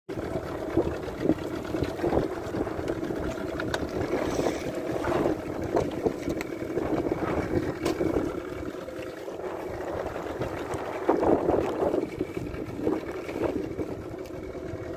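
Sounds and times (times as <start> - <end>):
water slapping against boat hull: 0.4 - 14.5.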